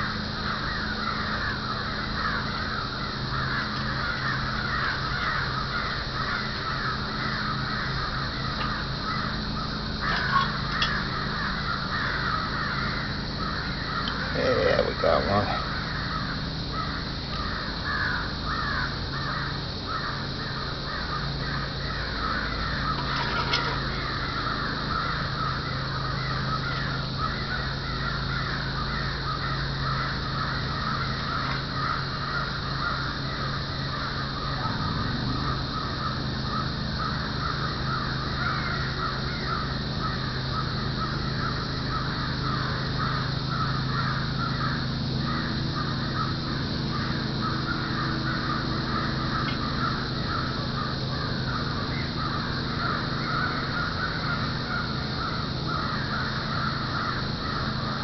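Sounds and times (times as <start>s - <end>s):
chorus of short animal calls: 0.0s - 58.0s
steady low hum: 0.0s - 58.0s.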